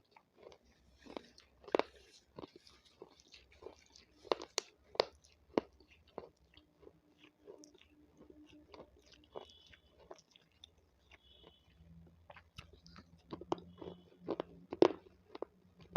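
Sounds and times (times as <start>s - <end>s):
chewing: 0.0s - 15.9s
crisp vegetable crunching: 0.0s - 15.9s.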